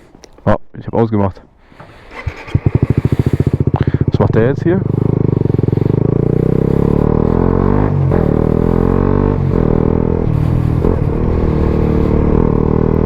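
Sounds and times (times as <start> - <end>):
motorcycle engine revving: 1.7 - 13.0.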